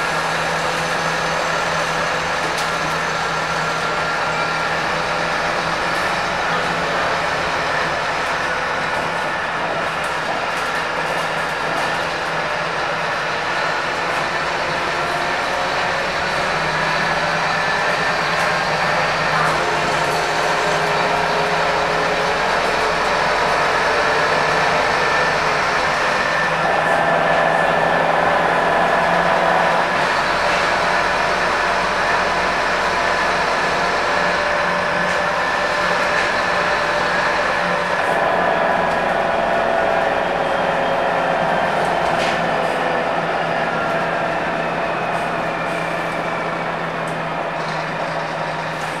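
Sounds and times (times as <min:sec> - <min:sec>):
bus engine whine and rumble: 0:00.0 - 0:49.0.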